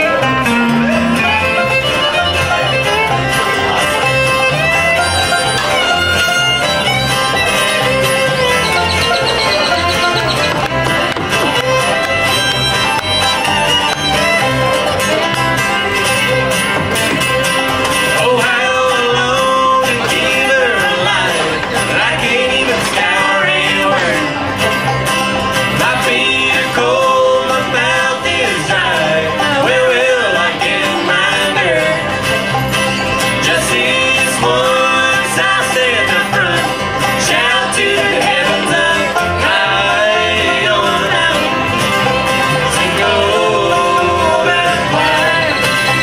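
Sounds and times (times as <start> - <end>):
acoustic guitar: 0.0 - 46.0
banjo: 0.0 - 46.0
resonator guitar: 0.0 - 46.0
upright bass: 0.0 - 46.0.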